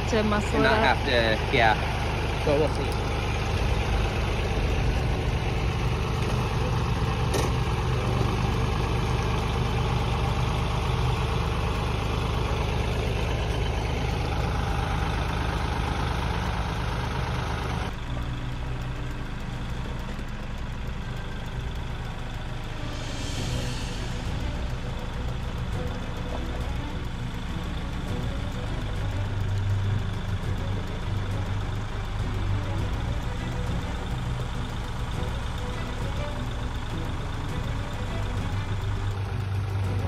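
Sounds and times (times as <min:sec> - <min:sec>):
tractor engine idling: 0:00.0 - 0:40.0.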